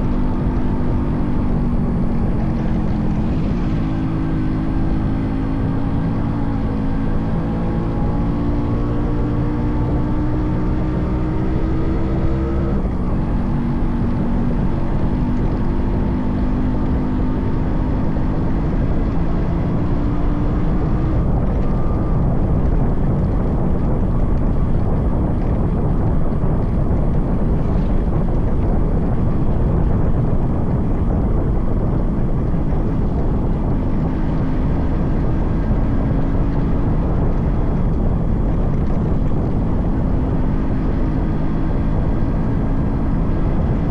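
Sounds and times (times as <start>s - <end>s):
wind and road noise: 0.0s - 43.9s.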